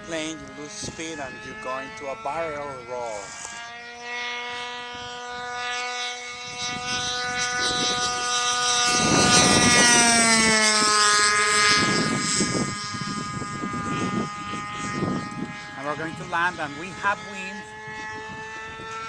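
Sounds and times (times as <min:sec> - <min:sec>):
model airplane engine whine: 0:00.0 - 0:19.0.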